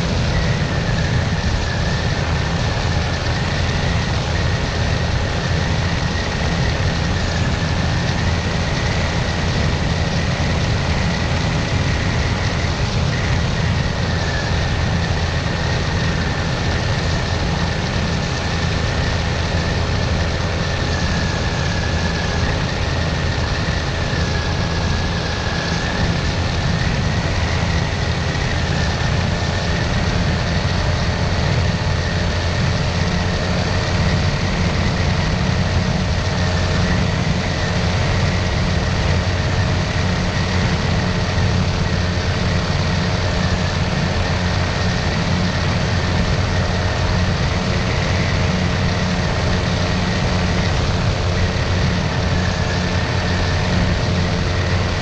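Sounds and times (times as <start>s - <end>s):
engine and propeller drone: 0.0s - 55.0s.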